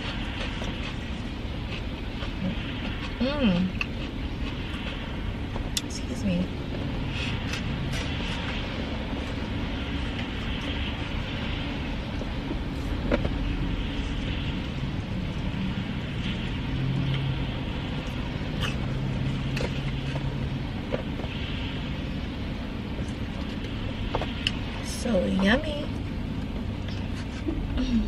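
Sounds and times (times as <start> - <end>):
car engine rumble from inside: 0.0 - 28.0.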